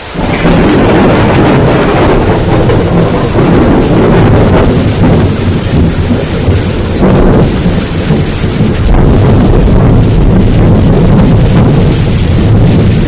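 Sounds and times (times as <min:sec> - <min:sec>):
heavy rain hissing: 0:00.0 - 0:13.0
low rumble of thunder: 0:00.0 - 0:13.0.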